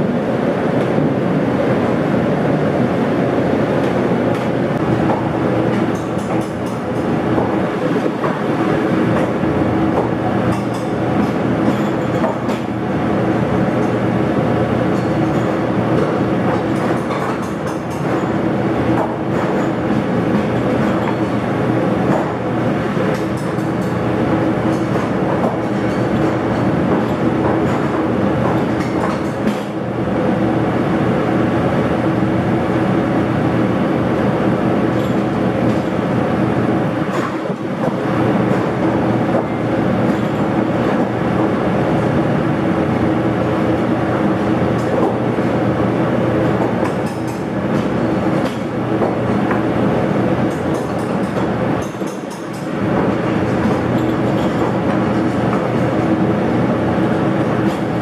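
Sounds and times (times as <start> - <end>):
exhaust hood fan running: 0.0 - 58.0.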